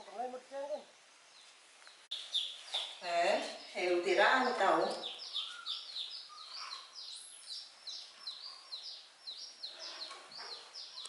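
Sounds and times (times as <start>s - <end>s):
bird peeping: 0.0s - 11.0s.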